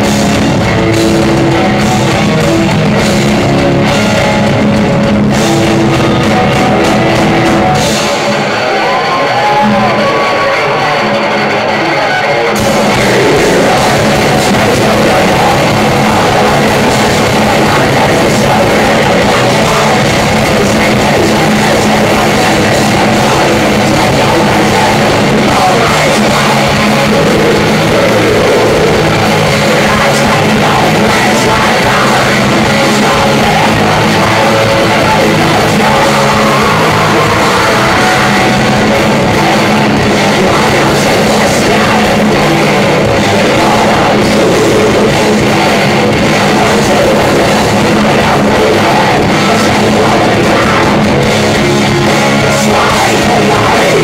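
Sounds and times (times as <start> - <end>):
distorted electric guitars: 0.0 - 54.0
drums: 0.0 - 54.0.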